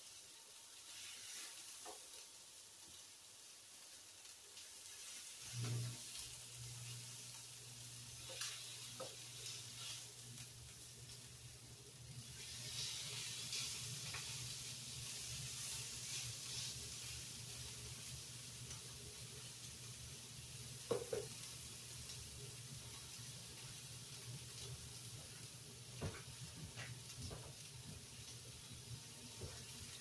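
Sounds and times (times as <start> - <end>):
chicken sizzling on a grill: 0.0 - 30.0.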